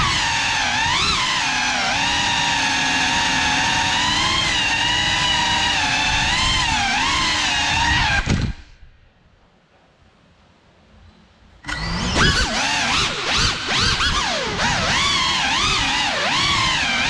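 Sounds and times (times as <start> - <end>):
drone motors whining: 0.0 - 8.9, 11.6 - 17.0.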